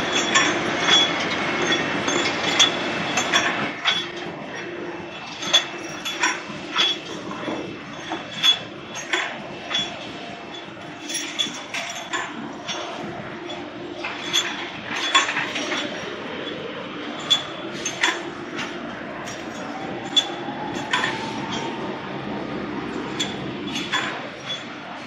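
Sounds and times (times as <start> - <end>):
grinding machine humming: 0.0 - 25.0
steel rods clinking: 0.1 - 4.3, 5.3 - 22.0, 22.9 - 24.7.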